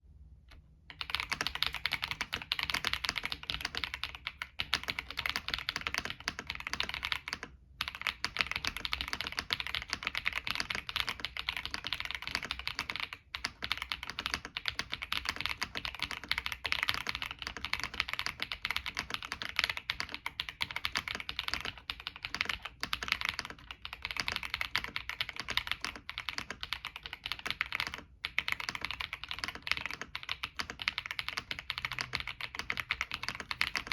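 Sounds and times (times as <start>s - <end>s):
mechanical keyboard typing: 0.9s - 33.9s.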